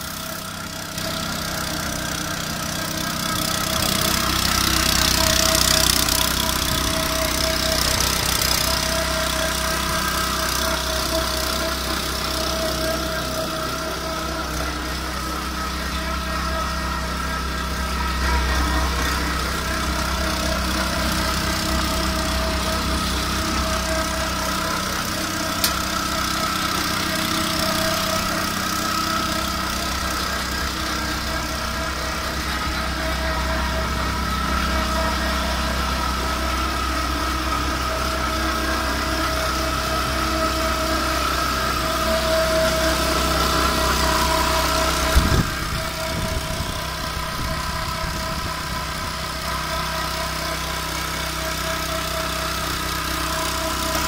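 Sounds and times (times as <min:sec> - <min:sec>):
small engine idling: 0:00.0 - 0:54.0.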